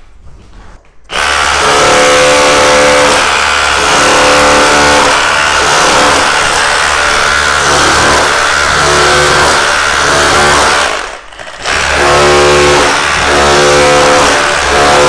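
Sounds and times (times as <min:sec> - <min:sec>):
rotary hammer chiselling brick: 0:01.1 - 0:15.0.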